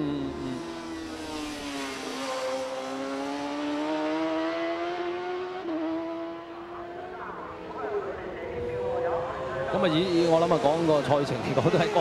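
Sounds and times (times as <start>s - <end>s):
racing motorcycle engine revving: 0.0s - 12.0s.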